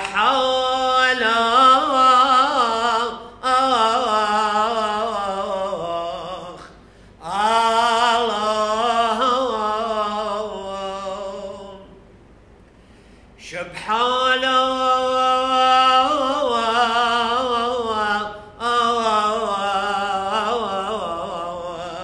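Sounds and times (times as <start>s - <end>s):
man chanting a hymn solo: 0.0s - 12.0s, 13.4s - 22.0s.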